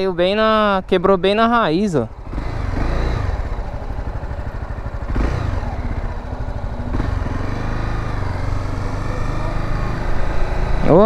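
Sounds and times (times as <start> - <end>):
motorcycle engine accelerating: 1.8 - 11.0.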